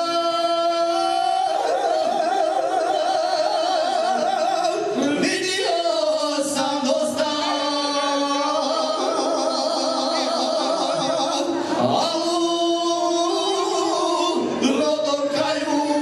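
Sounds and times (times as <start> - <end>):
men singing with vibrato: 0.0 - 16.0.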